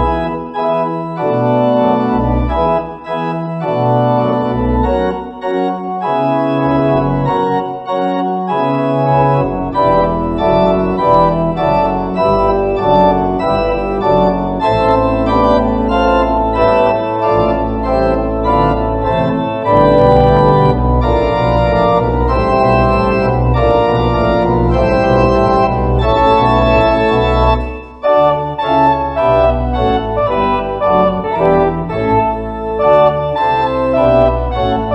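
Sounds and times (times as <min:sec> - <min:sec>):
low organ bass notes: 0:00.0 - 0:34.9
organ chords: 0:00.0 - 0:34.9.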